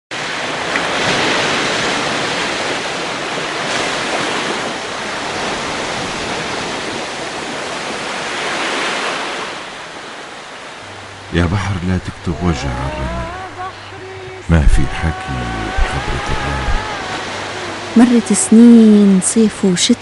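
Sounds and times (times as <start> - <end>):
sea waves washing onto shore: 0.1 - 19.6.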